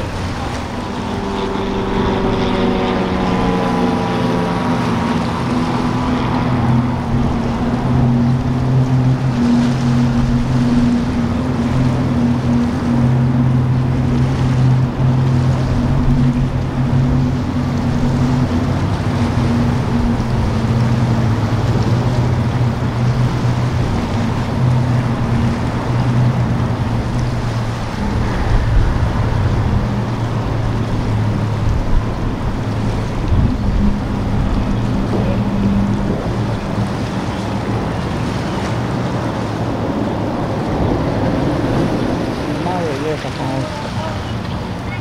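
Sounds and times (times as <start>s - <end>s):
rushing water: 0.0s - 45.0s
wind: 0.0s - 45.0s
yacht engines droning: 0.0s - 45.0s.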